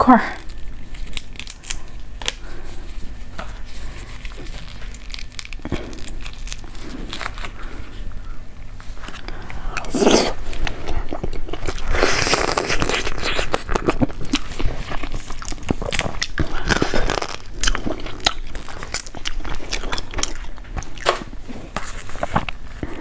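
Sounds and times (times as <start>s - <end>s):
person chewing crab: 0.5s - 2.9s, 4.0s - 23.0s.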